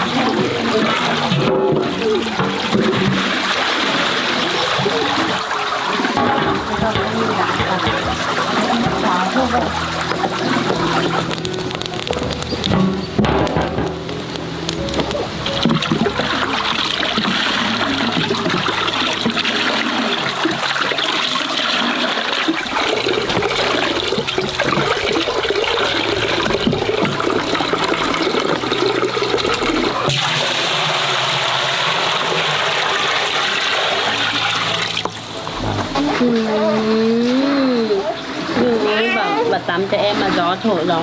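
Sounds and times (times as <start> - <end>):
water running and splashing: 0.0 - 41.0.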